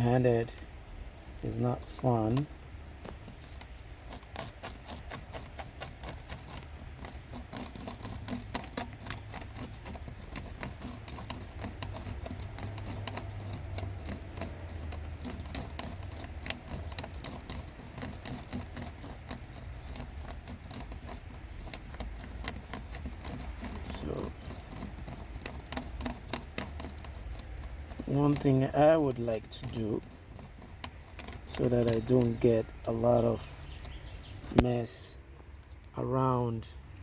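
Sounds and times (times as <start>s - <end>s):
epoxy being stirred: 0.0s - 36.0s.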